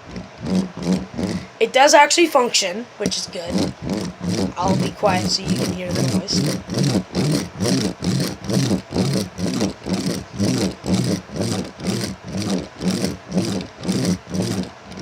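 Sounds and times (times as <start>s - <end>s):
rhythmic mechanical pulsing: 0.0s - 1.9s, 2.9s - 15.0s.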